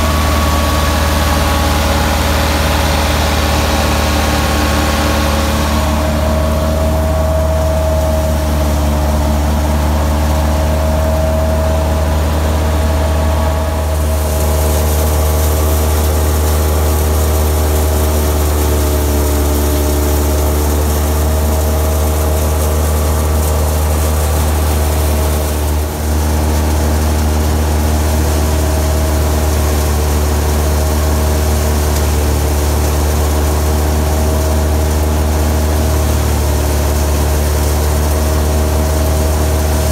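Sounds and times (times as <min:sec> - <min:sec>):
thresher running: 0:00.0 - 0:39.9
tractor diesel engine running: 0:00.0 - 0:39.9.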